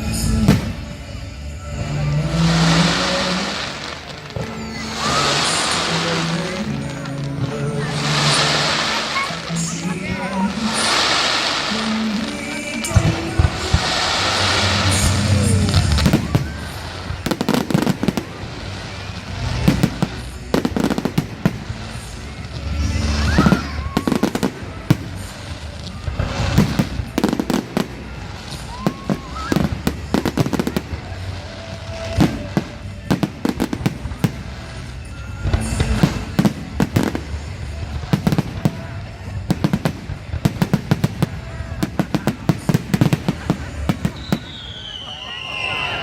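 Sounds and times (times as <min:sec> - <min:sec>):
firework rushing hiss: 0:00.0 - 0:46.0
fireworks crackling bangs: 0:00.0 - 0:46.0.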